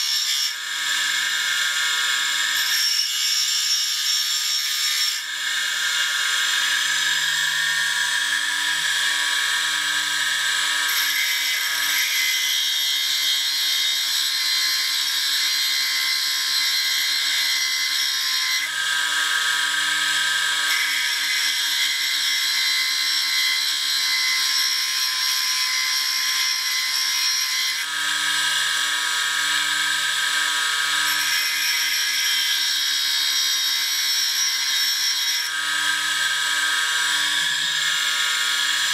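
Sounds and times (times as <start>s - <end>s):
bench grinder motor hum: 0.0s - 38.9s
tool grinding on grinder wheel: 0.0s - 38.9s.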